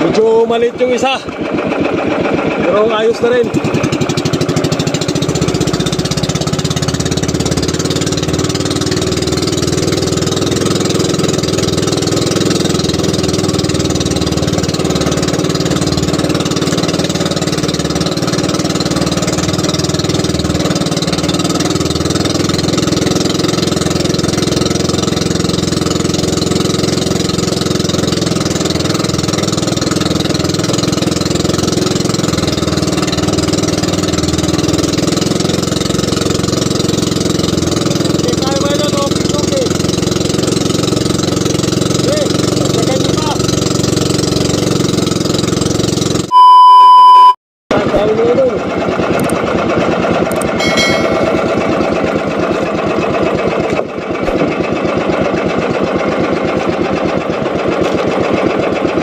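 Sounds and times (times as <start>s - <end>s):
boat engine running steadily: 0.0s - 46.5s, 47.7s - 59.0s.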